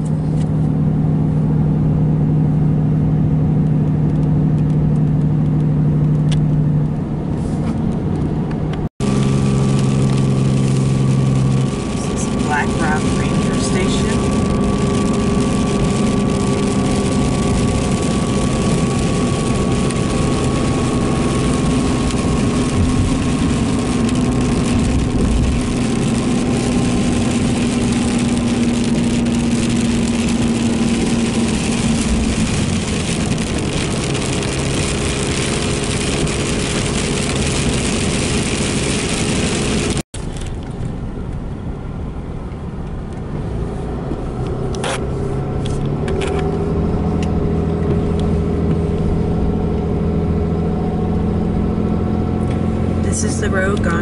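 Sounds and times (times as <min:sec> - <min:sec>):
engine and road noise inside cab: 0:00.0 - 0:54.0
low hum: 0:00.0 - 0:54.0.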